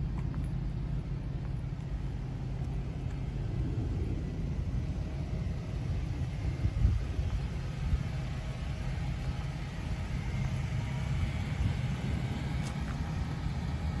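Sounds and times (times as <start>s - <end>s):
wind buffeting microphone: 1.0s - 12.6s.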